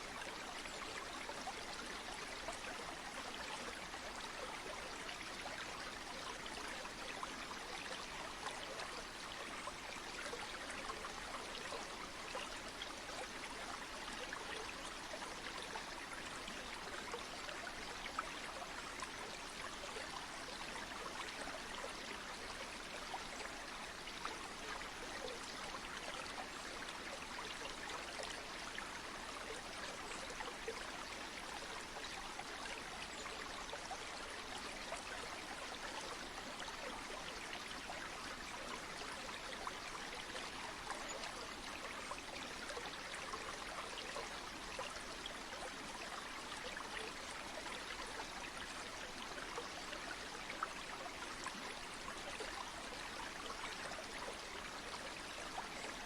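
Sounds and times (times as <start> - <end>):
stream of water flowing: 0.0 - 56.0.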